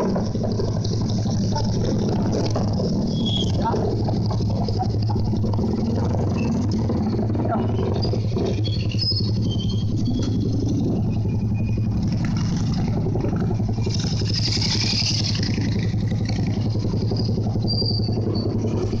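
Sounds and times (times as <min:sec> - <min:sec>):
motorcycle engine running: 0:00.0 - 0:19.0
traffic: 0:00.0 - 0:19.0.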